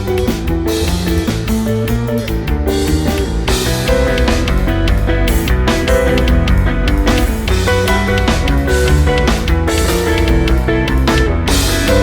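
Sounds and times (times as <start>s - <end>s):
drums: 0.0s - 12.0s
electric guitar: 0.0s - 12.0s.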